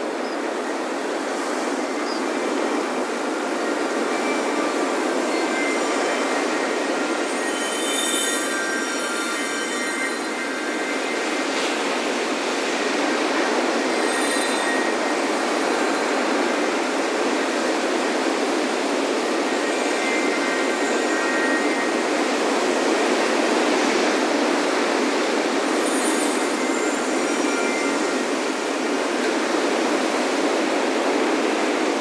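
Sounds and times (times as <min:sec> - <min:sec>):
ocean surf washing on beach: 0:00.0 - 0:32.0
wind chimes ringing: 0:01.0 - 0:31.9.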